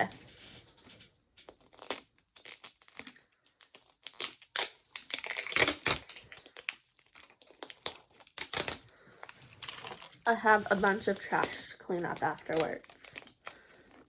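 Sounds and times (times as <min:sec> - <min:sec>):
paper crinkling: 0:00.0 - 0:14.0.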